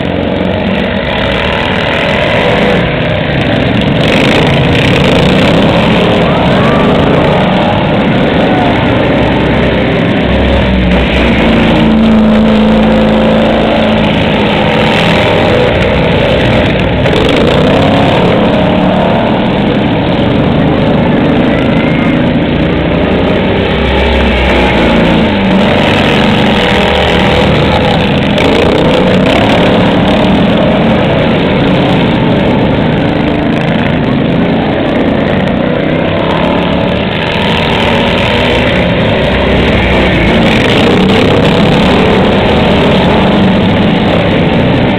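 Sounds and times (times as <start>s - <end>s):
small mower engines revving: 0.0s - 44.9s.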